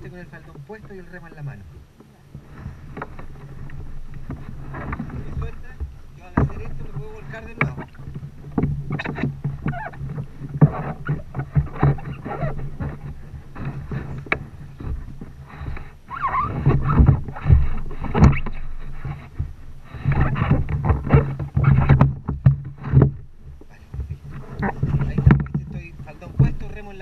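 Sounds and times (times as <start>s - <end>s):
water lapping against kayaks: 0.0s - 27.0s.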